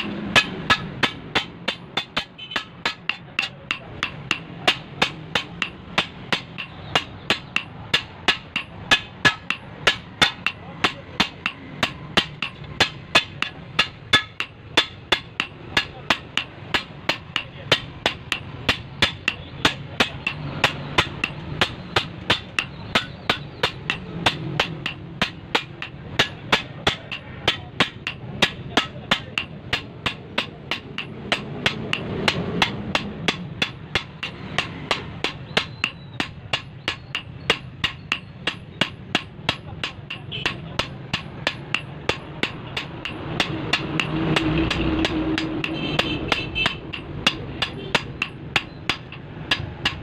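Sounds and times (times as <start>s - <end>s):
hammer striking steel blade: 0.0s - 50.0s.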